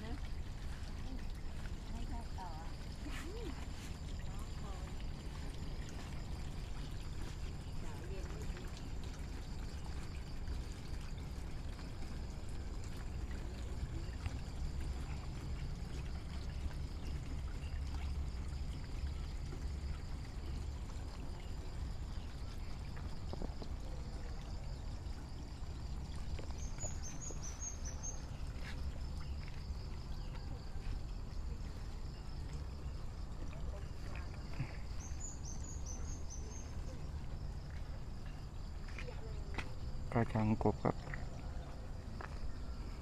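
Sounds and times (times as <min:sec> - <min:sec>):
water pouring into pond: 0:00.0 - 0:43.0.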